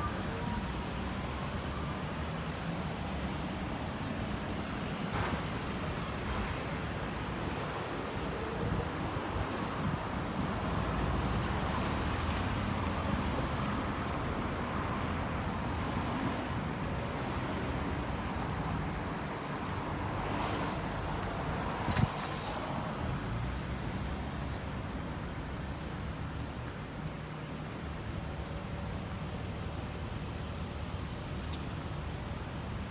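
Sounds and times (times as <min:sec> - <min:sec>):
passing road traffic: 0:00.0 - 0:32.9.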